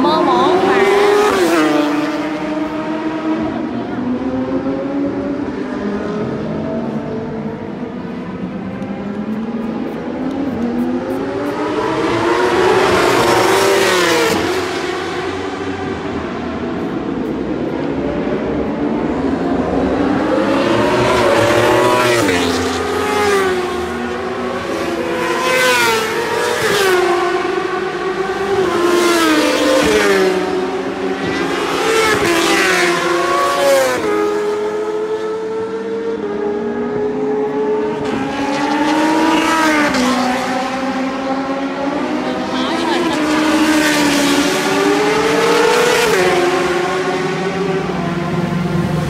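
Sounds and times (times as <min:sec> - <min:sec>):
racing motorcycles passing at high revs: 0:00.0 - 0:49.0.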